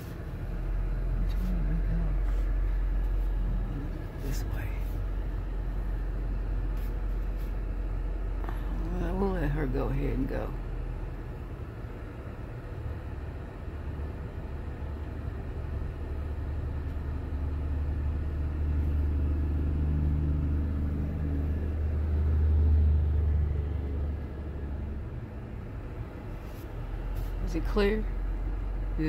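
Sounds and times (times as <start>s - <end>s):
engine and road rumble in cabin: 0.0s - 29.0s.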